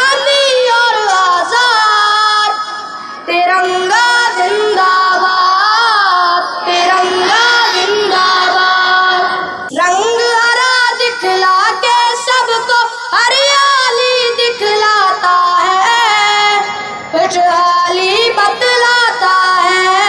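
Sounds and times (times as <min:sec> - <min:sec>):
child singing: 0:00.0 - 0:20.0.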